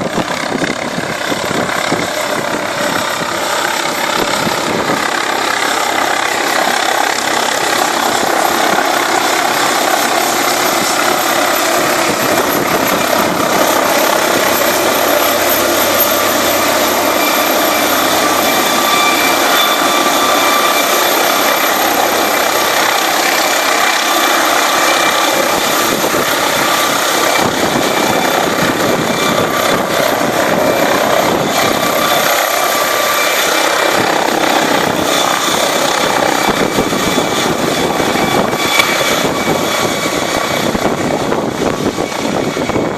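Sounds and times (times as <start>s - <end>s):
helicopter engine and rotors: 0.0s - 42.9s.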